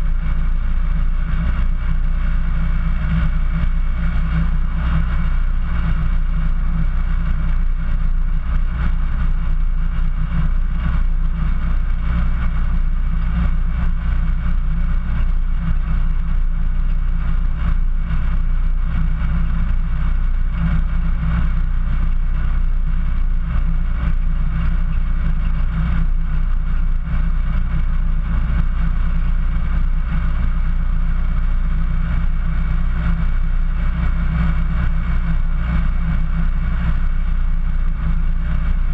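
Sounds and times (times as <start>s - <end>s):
vehicle engine at low revs: 0.0s - 38.9s.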